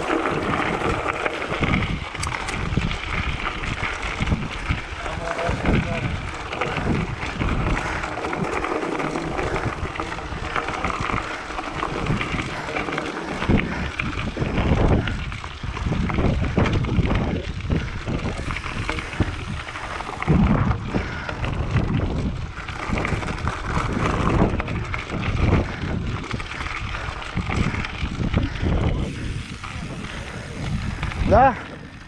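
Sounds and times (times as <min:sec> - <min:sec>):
bike tyres rolling on dirt: 0:00.0 - 0:32.0
wind buffeting microphone: 0:00.0 - 0:32.0.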